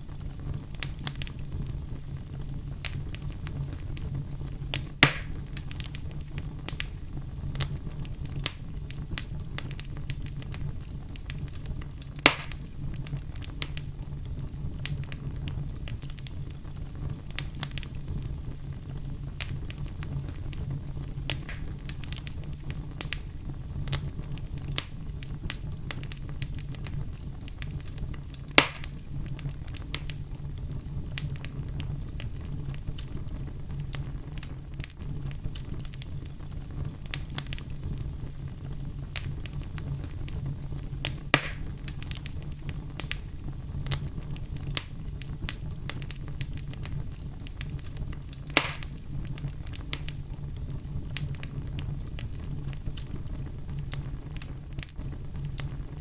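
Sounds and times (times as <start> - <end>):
wood fire crackling: 0.0 - 56.0
loud sharp fire pops: 0.1 - 56.0.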